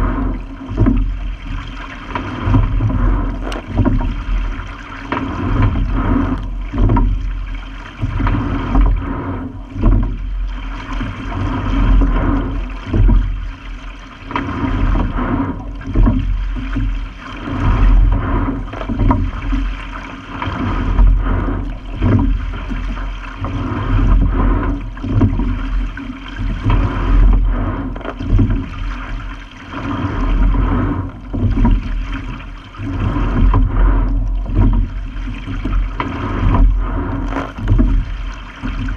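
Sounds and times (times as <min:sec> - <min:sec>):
low rumble: 0:00.0 - 0:38.9
water rushing along rowing hull: 0:00.0 - 0:38.9.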